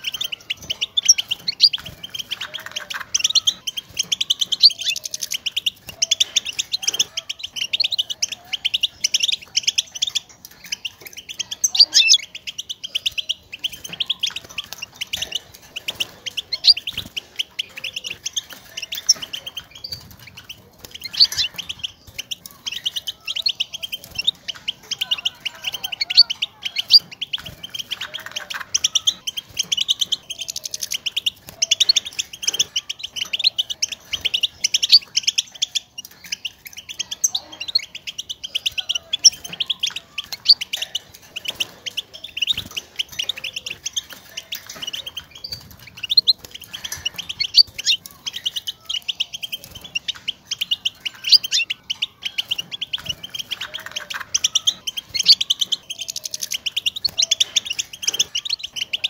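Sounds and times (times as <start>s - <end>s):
goldfinch twittering chirps: 0.0s - 59.0s.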